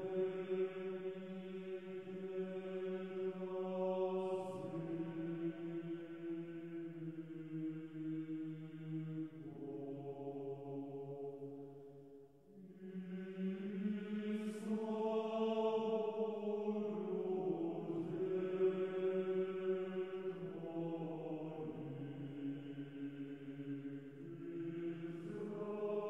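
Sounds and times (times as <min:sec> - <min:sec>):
slow vocal chant: 0:00.0 - 0:26.0.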